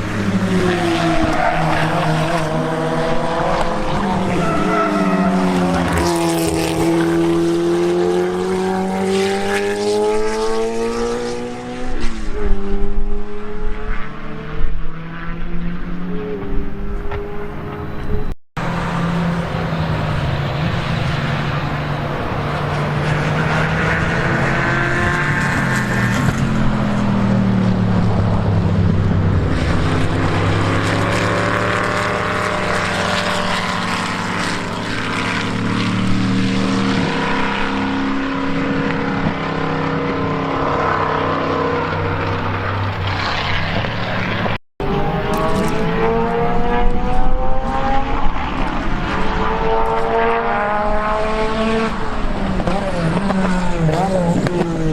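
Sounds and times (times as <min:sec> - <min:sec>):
racing car engines revving: 0:00.0 - 0:54.9.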